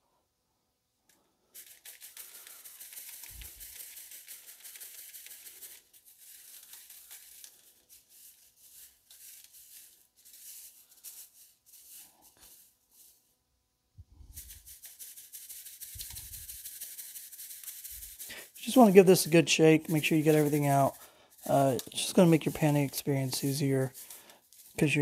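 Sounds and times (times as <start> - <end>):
gravel rattling on wire screen: 1.1 - 13.1, 14.3 - 25.0.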